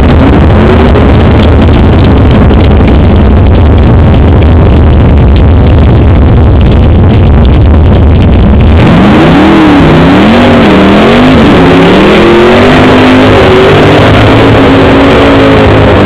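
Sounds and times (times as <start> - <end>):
engine revving hard: 0.0 - 6.0, 8.1 - 16.0.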